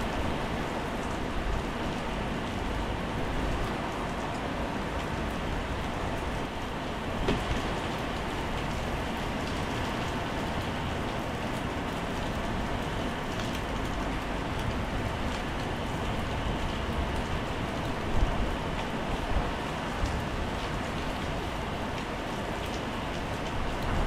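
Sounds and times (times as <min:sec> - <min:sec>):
heavy rain on paving: 0:00.0 - 0:24.0.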